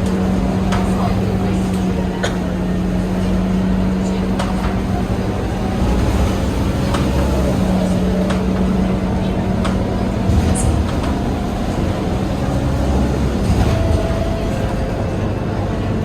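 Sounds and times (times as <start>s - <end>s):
bus engine drone: 0.0s - 16.0s
road rumble: 0.0s - 16.0s.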